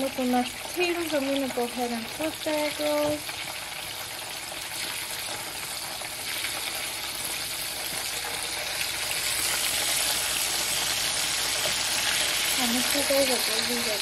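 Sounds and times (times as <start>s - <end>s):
egg rolls sizzling in hot oil: 0.0s - 14.0s.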